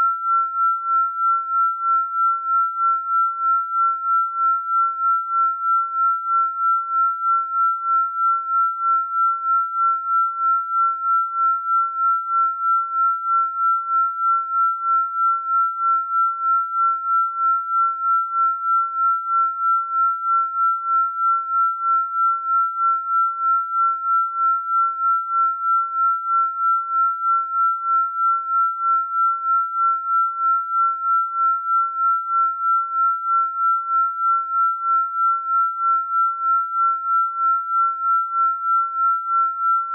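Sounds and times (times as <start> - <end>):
pulsing high sine tone: 0.0 - 39.9.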